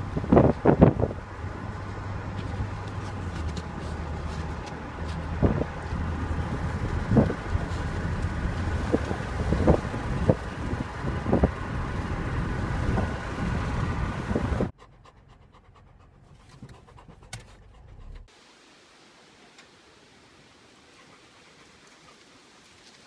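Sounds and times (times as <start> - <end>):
car wind and road noise: 0.0 - 18.5.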